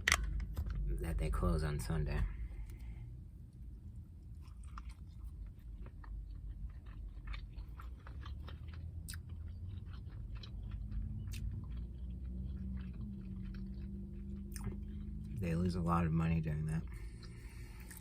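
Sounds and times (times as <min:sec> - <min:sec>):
low hum: 0:00.0 - 0:18.0
chewing crispy sandwich: 0:03.5 - 0:18.0.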